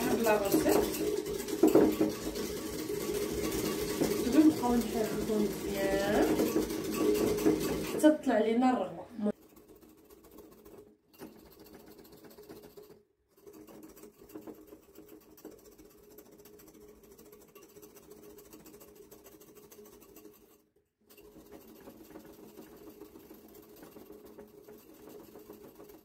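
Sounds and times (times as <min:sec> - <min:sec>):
wire whisk rattling in a mug: 0:00.0 - 0:08.4, 0:09.3 - 0:26.0.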